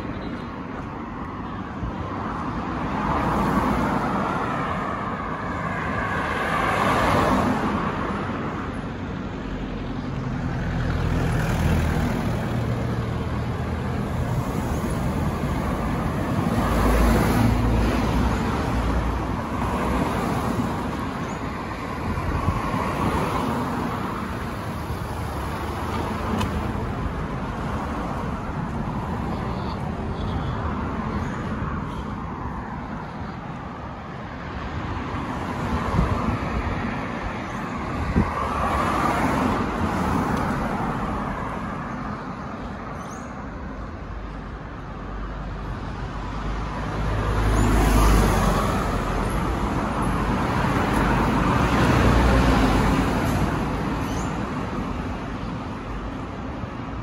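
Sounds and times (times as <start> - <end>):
cars passing: 0.0 - 57.0.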